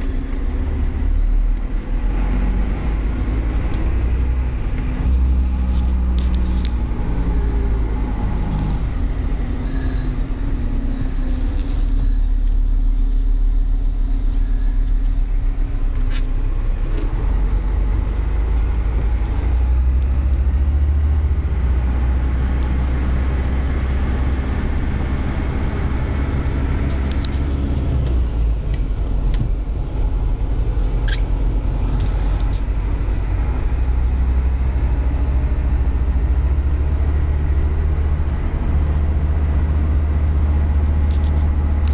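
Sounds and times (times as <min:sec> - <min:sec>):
road noise: 0:00.0 - 0:41.9
truck diesel engine drone: 0:00.0 - 0:41.9.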